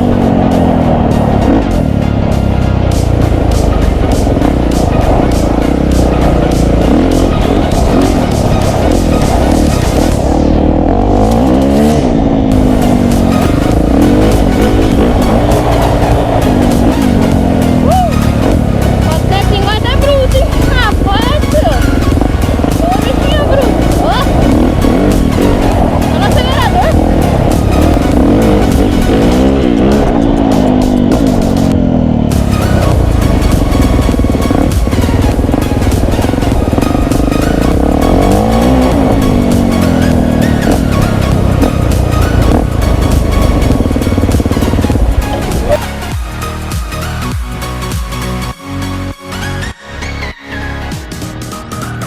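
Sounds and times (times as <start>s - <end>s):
off-road vehicle engine revving: 0.0s - 51.0s
music playing: 0.0s - 52.0s.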